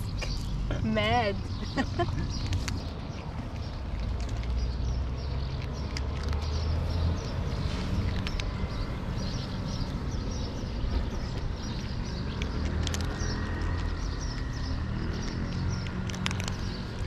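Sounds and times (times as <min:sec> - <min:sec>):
cats crunching dry kibble: 0:01.4 - 0:17.0.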